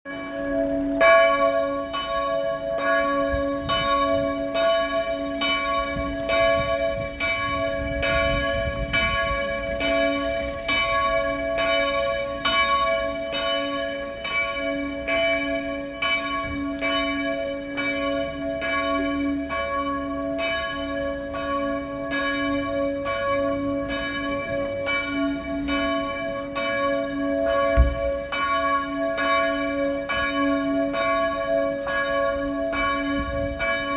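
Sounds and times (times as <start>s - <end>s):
church bell ringing: 0.1s - 33.9s.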